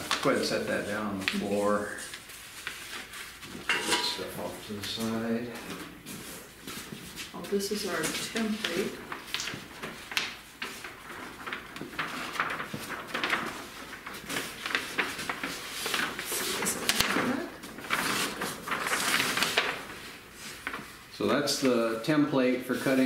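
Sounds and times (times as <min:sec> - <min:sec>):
paper rustling and crackling: 0:00.0 - 0:23.0.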